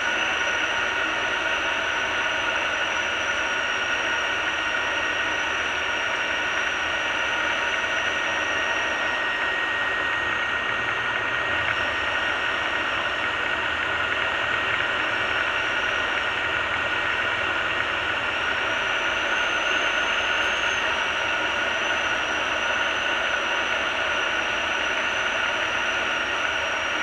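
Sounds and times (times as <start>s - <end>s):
aircraft engine and propeller drone: 0.0s - 27.0s.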